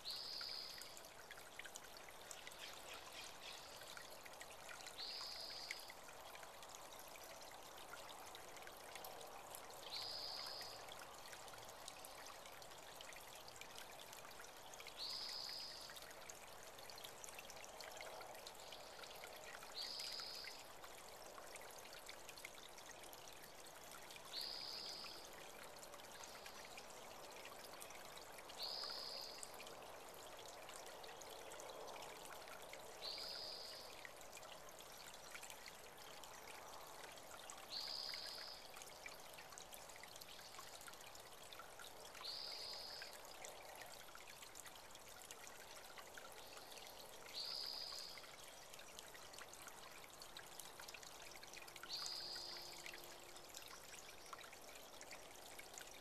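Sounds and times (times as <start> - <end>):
creek trickling: 0.0 - 56.0.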